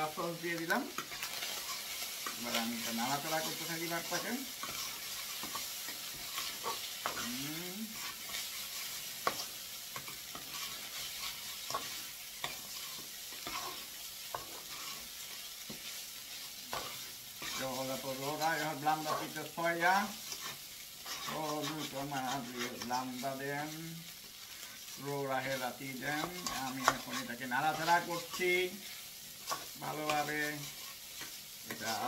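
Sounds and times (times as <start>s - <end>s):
rice sizzling in frying pan: 0.0s - 32.0s
spatula scraping pan: 0.0s - 32.0s.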